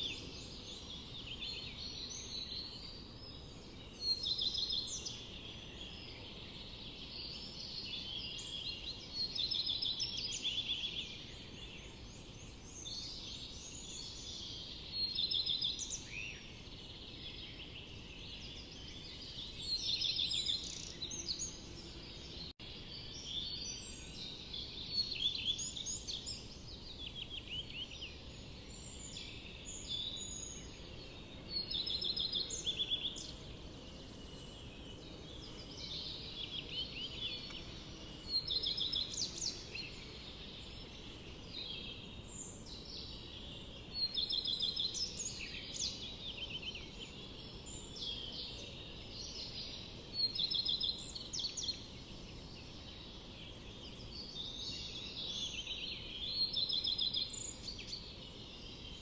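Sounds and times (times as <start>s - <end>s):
low background hiss: 0.0s - 59.0s
songbirds singing: 0.0s - 59.0s.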